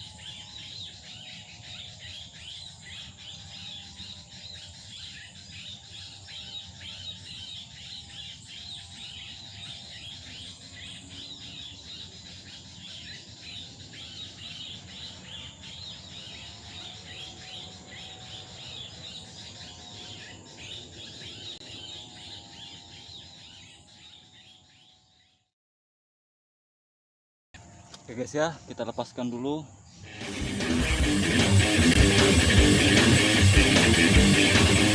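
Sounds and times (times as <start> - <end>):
small birds chirping: 0.0 - 25.5, 27.6 - 34.9.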